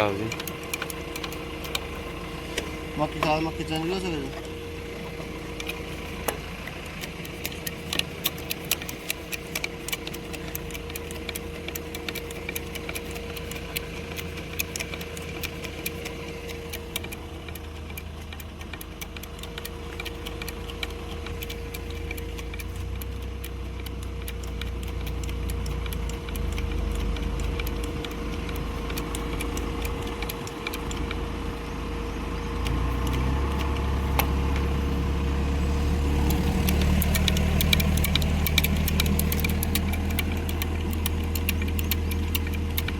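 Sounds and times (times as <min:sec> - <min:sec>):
sharp clicks: 0:00.0 - 0:42.9
vehicle engine running: 0:00.0 - 0:42.9.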